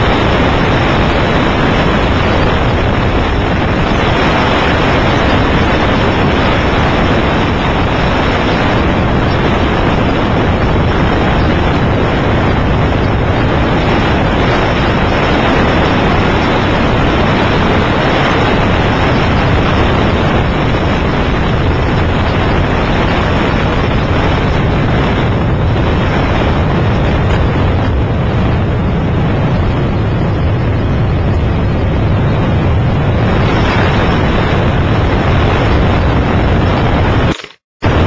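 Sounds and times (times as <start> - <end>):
aircraft cabin rumble: 0.0 - 38.0.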